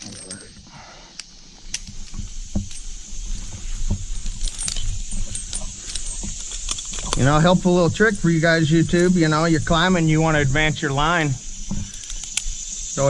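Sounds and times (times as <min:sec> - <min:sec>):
metal climbing hardware clinking: 0:00.0 - 0:10.4, 0:11.1 - 0:12.7.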